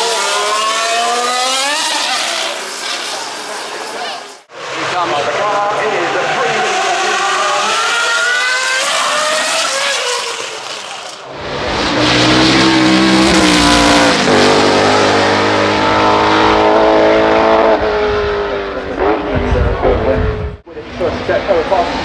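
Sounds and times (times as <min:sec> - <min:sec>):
racing car engines at high revs: 0:00.0 - 0:22.0.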